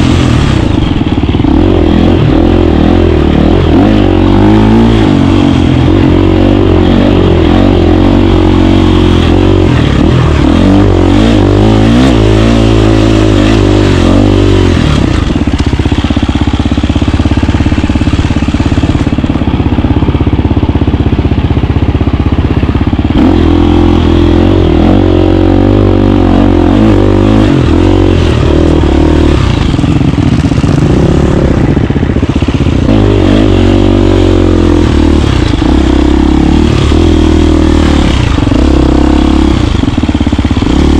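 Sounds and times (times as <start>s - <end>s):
dirt bike engine revving: 0.0s - 21.3s, 22.2s - 40.9s.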